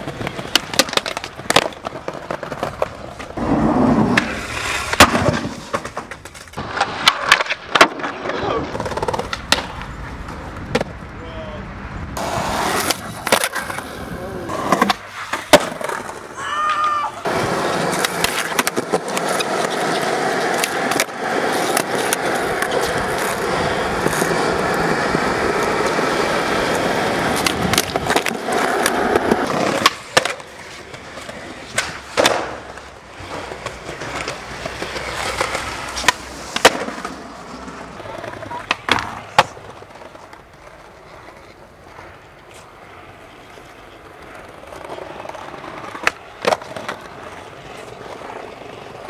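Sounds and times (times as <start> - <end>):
skateboard clacks: 0.0 - 11.0, 12.2 - 49.0
skateboard wheels rolling on concrete: 0.0 - 49.0.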